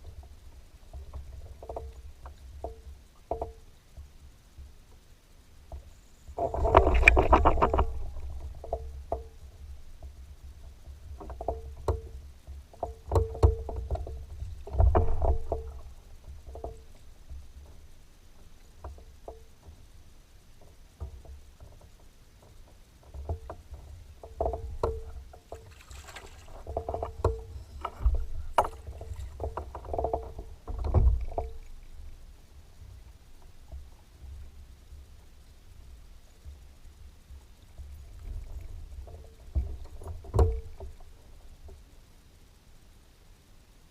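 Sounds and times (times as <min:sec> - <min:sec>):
small waves slapping boat hull: 0:00.0 - 0:42.1
wind rumble on microphone: 0:00.0 - 0:42.4.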